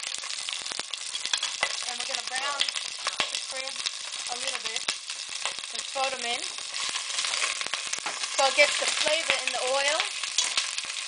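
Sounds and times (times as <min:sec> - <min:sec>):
crabs frying in oil: 0:00.0 - 0:11.0.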